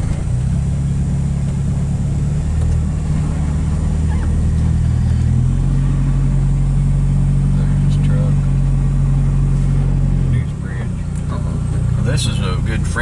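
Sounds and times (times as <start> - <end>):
tyre road noise: 0.0 - 13.0
vehicle engine drone: 0.0 - 13.0.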